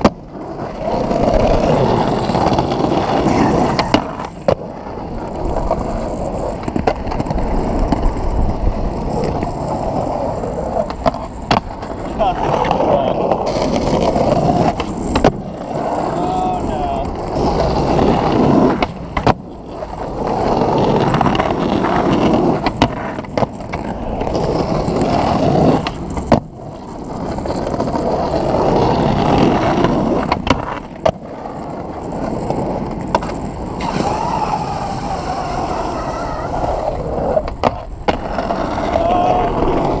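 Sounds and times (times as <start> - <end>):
skateboard clacks: 0.0 - 40.0
skateboard wheels rolling on asphalt: 0.0 - 40.0.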